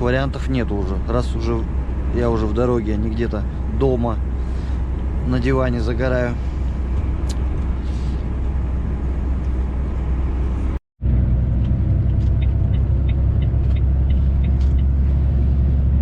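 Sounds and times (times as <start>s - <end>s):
road noise: 0.0s - 16.0s
truck engine drone: 0.0s - 16.0s.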